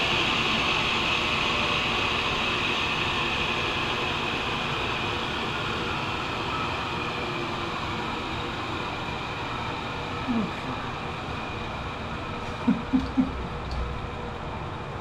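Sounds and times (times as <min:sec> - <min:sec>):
electric machine whirring hiss: 0:00.0 - 0:15.0.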